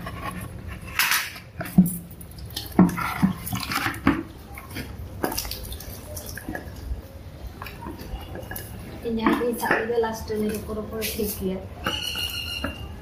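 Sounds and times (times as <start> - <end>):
water splashing onto concrete: 1.0 - 13.0.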